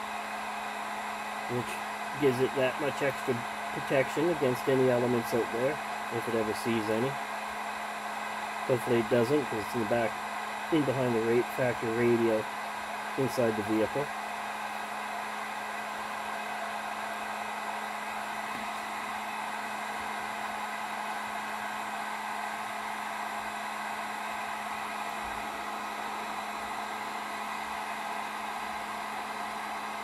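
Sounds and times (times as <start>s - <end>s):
heat gun low hum: 0.0s - 30.0s.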